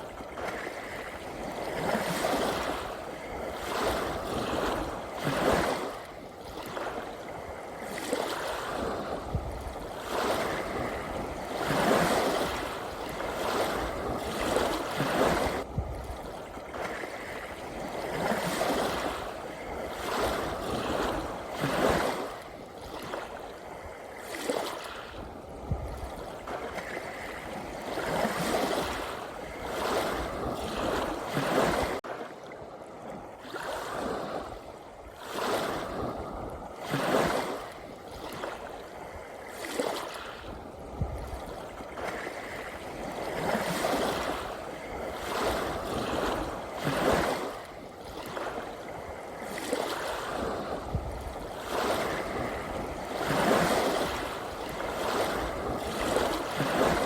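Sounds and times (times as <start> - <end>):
gentle sea waves washing: 0.0 - 57.0.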